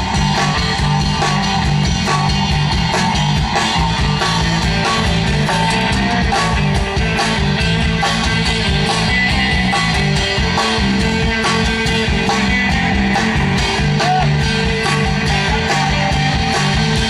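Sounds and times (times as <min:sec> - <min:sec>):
bass line: 0:00.0 - 0:17.0
guitar: 0:00.0 - 0:17.0
steady drum beat: 0:00.0 - 0:17.0.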